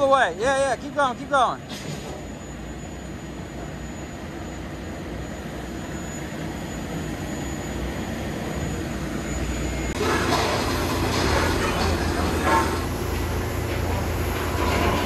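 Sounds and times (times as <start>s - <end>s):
thin high whine: 0.0s - 15.0s
engine rumbling: 1.6s - 15.0s.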